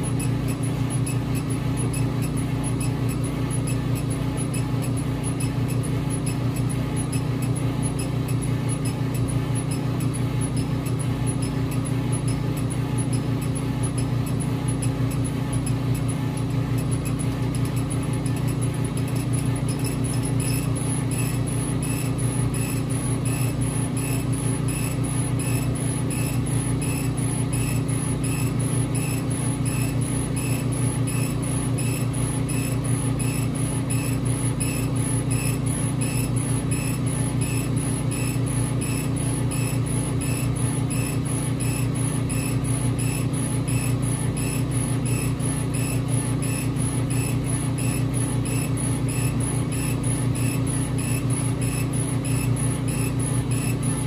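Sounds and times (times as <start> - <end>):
laser cutter machine hum: 0.0 - 54.0.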